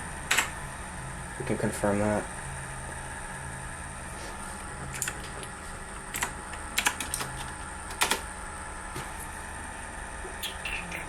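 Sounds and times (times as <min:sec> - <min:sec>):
computer humming: 0:00.0 - 0:11.0.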